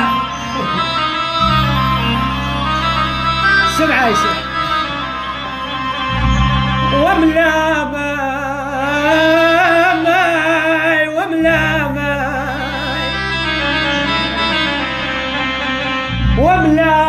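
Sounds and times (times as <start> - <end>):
low instrumental accompaniment: 0.0 - 17.0
person singing mournfully: 0.0 - 17.0.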